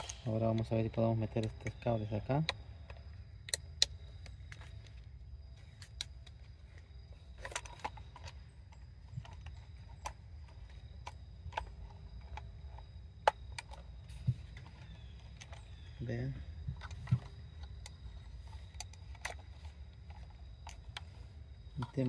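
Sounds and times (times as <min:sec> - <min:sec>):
plastic parts clicking and rattling: 0:00.0 - 0:22.0.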